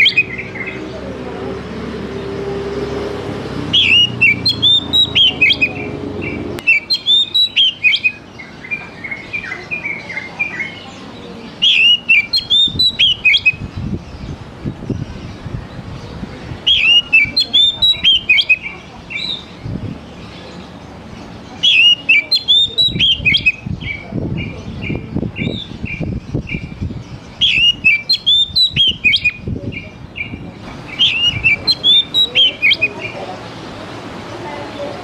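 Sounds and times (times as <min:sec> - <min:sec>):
bird singing loud phrases: 0:00.0 - 0:35.0.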